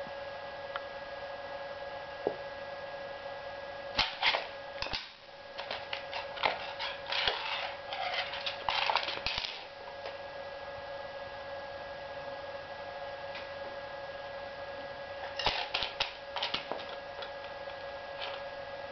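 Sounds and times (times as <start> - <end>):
electrical hum: 0.0 - 18.9.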